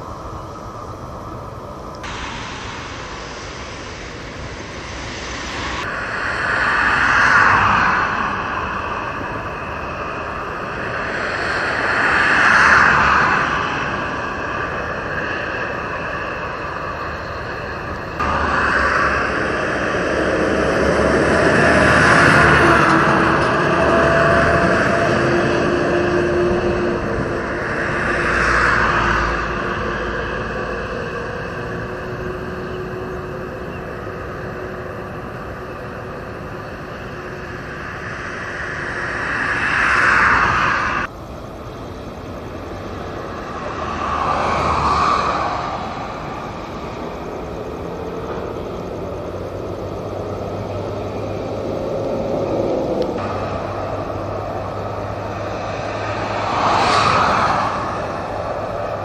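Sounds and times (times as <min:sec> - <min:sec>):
faint engine hum: 0:00.0 - 0:59.0
outdoor machinery noise: 0:00.0 - 0:59.0
vehicles passing: 0:00.0 - 0:59.0.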